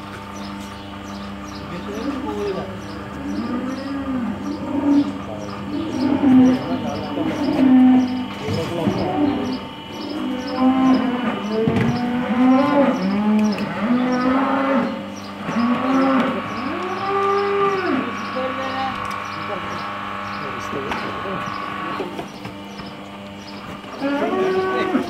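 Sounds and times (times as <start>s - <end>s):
steady hum: 0.0s - 25.0s
cattle mooing: 1.9s - 22.2s, 23.9s - 25.0s.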